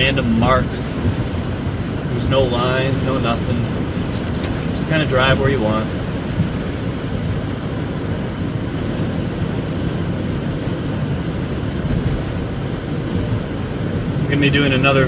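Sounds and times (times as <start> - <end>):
car road noise: 0.0 - 15.0
wind noise: 0.0 - 15.0.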